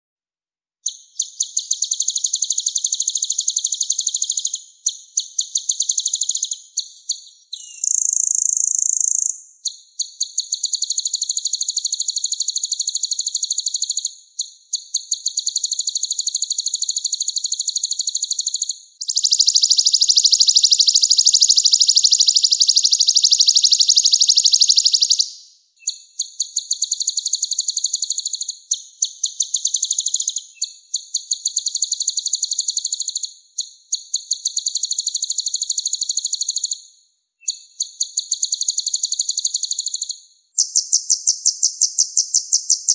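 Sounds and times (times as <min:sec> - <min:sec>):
songbird singing rolling trills: 0:00.8 - 0:36.7, 0:37.4 - 0:42.9.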